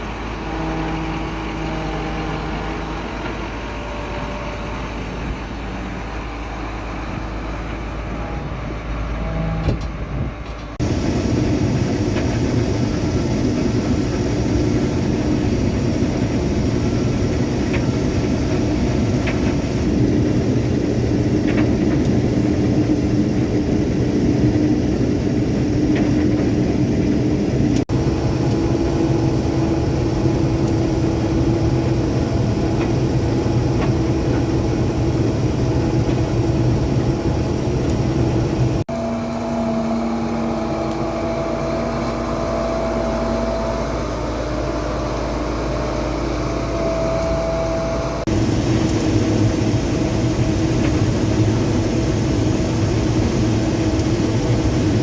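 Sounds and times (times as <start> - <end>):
engine drone with high whine: 0.0 - 55.0
heavy diesel engine running: 0.0 - 55.0.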